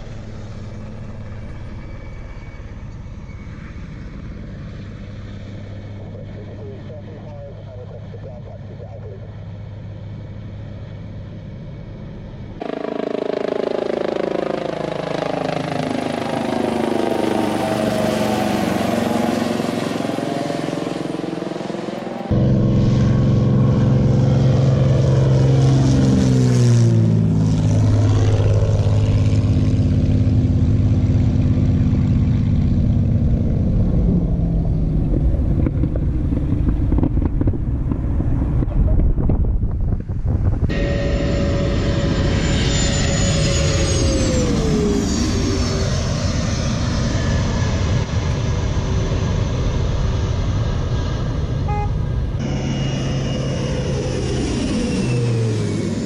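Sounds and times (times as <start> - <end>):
helicopter hum: 0.0 - 56.0
propeller plane engine flypast: 0.0 - 56.0.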